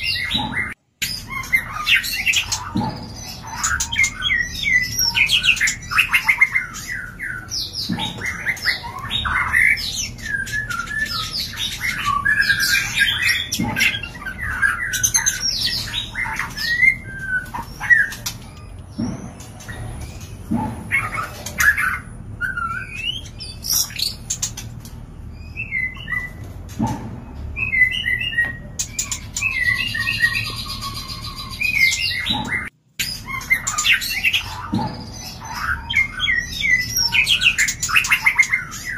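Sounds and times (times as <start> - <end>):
birds chirping and whistling: 0.0 - 38.9.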